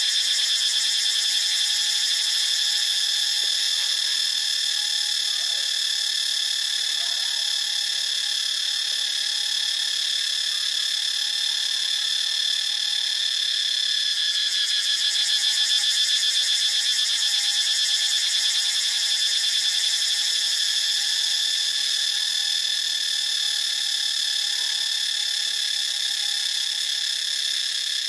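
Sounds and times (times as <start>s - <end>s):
cicada buzzing: 0.0s - 6.9s, 7.5s - 11.6s, 12.2s - 28.0s.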